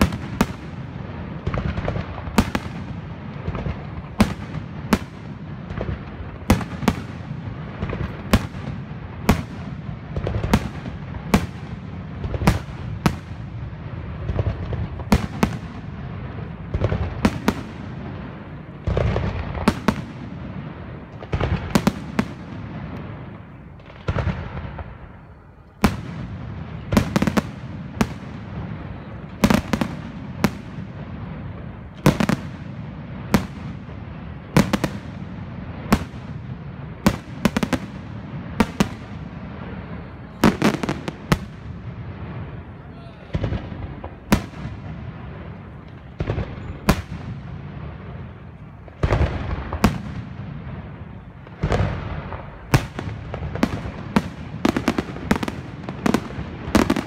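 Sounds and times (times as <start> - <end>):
fireworks rumble and crackle: 0.0 - 57.0.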